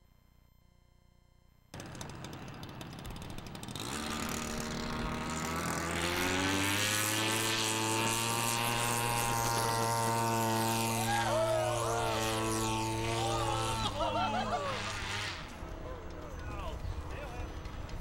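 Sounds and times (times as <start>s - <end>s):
model plane engine and propeller: 1.8s - 18.0s.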